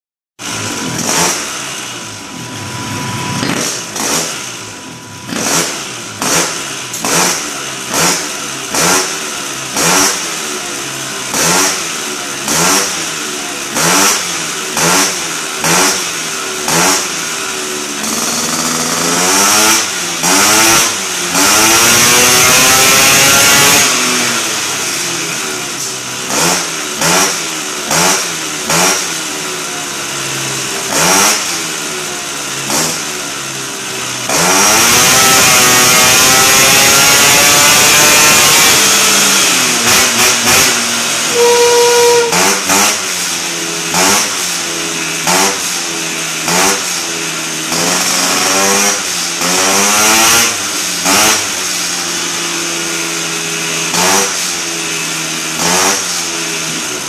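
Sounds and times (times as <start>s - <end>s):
scooter engine revving: 0.4s - 57.0s.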